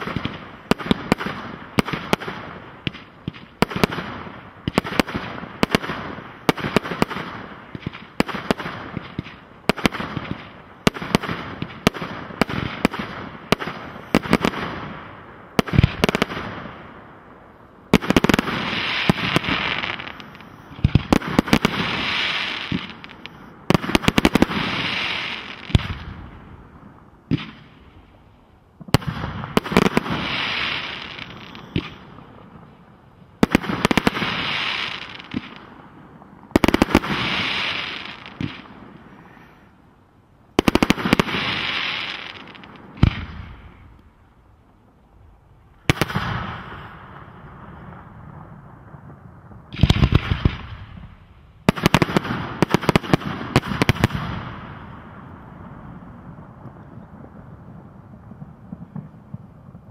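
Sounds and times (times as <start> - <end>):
firework bangs: 0.0 - 17.2, 17.9 - 27.9, 28.8 - 32.8, 33.4 - 39.6, 40.5 - 44.0, 45.8 - 59.9
firework crackling: 0.0 - 28.2, 28.8 - 39.8, 40.5 - 44.5, 45.6 - 59.9.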